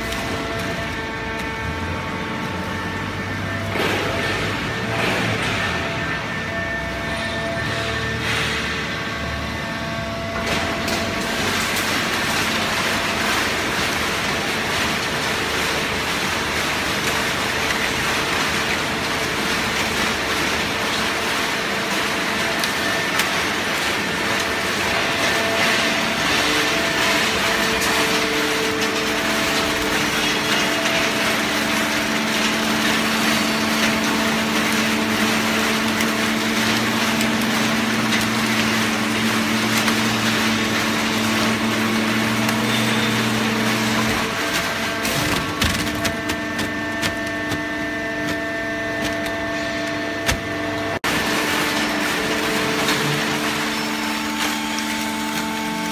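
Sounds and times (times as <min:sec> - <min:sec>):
baling press running: 0:00.0 - 0:55.9.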